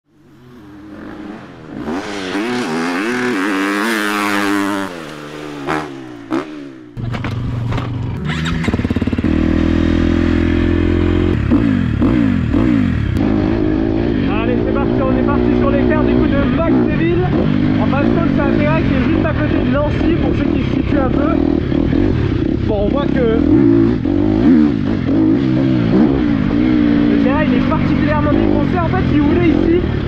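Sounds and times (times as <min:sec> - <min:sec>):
motocross bike engine revving: 0:00.1 - 0:30.0.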